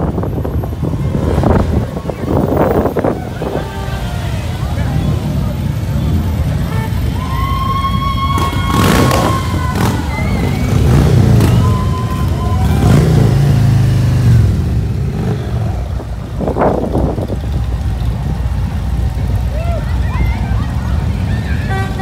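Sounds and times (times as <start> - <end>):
motorcycle engines rumbling: 0.0 - 22.0.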